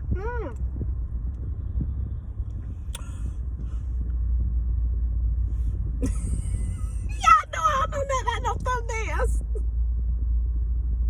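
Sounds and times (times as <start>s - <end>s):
low steady rumble in car: 0.0s - 11.0s.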